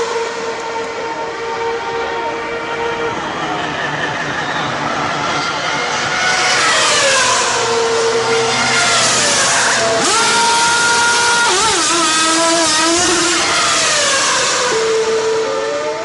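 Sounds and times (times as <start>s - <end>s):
race car engines at speed: 0.0s - 16.0s.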